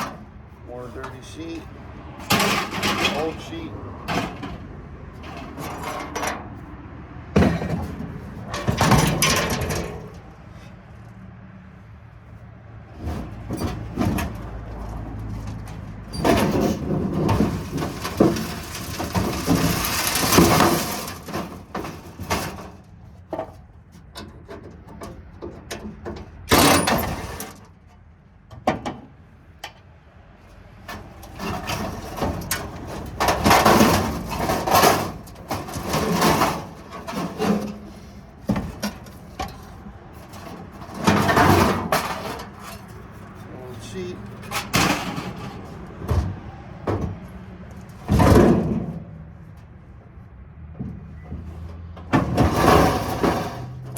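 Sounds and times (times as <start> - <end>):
scrap metal clanking and banging: 0.0 - 10.9, 12.8 - 29.2, 30.5 - 49.9, 50.7 - 53.9.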